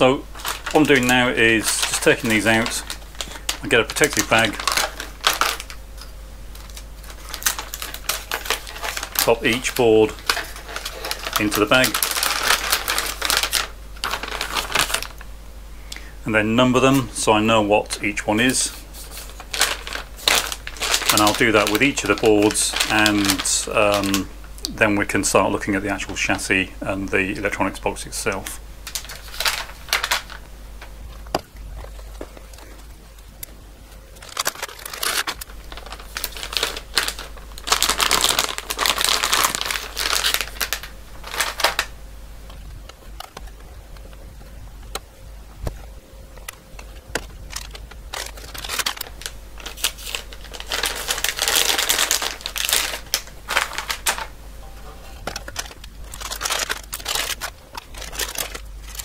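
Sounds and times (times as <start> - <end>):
plastic bag crinkling: 0.0 - 15.3, 16.8 - 33.3, 33.9 - 45.0, 45.8 - 59.0.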